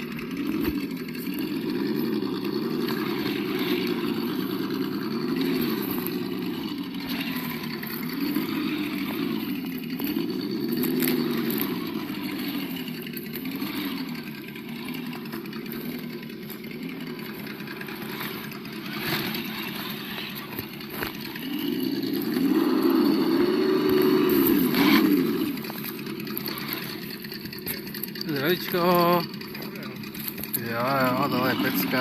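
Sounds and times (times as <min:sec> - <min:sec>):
simulated engine through small speaker: 0:00.0 - 0:32.0.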